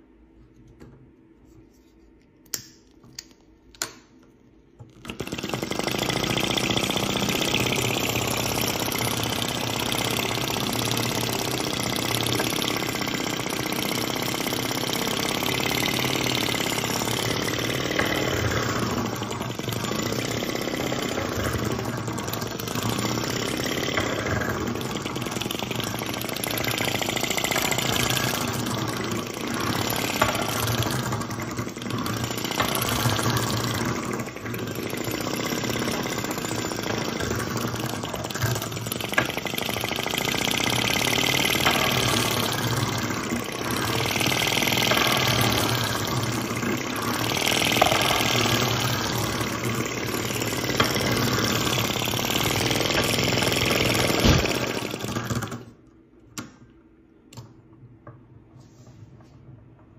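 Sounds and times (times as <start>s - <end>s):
small engine mechanical clatter: 4.8s - 55.8s.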